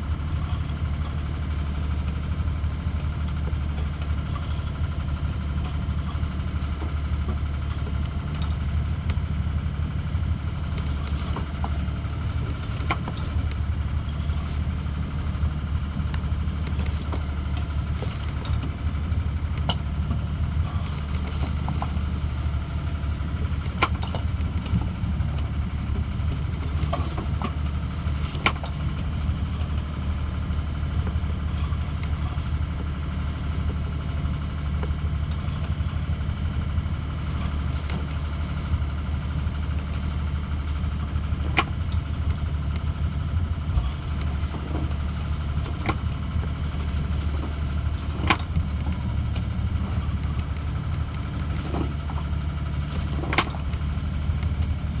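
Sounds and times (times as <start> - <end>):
steady low drone: 0.0 - 55.0
wind: 0.0 - 55.0.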